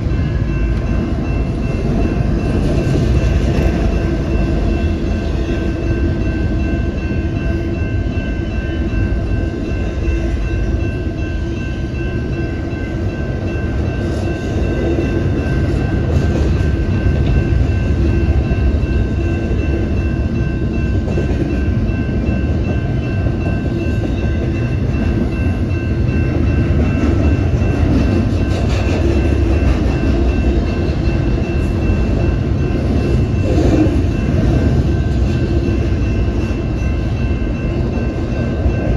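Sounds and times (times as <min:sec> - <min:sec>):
train rail cars rumbling past: 0:00.0 - 0:38.9.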